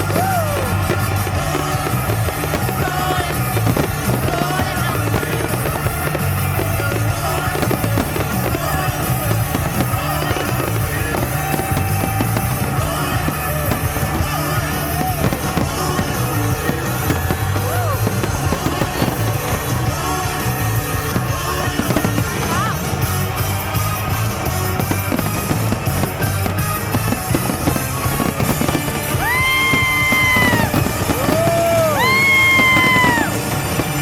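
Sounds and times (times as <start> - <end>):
fireworks bursting and crackling: 0.0 - 34.0
loud music: 0.0 - 34.0.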